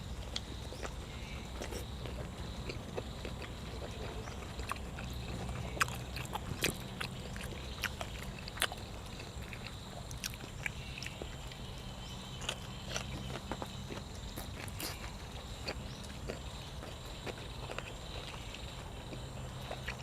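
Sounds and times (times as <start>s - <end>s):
steady low hum: 0.0s - 20.0s
person chewing: 0.2s - 20.0s.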